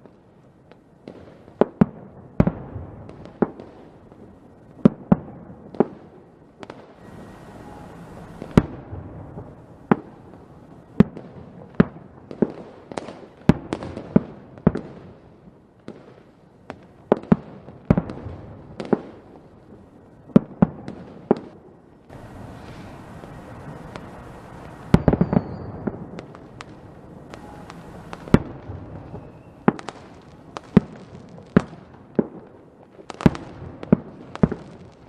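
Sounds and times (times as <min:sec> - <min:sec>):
fireworks crackling and fizzing: 0:00.0 - 0:35.0
fireworks bangs: 0:01.0 - 0:35.0.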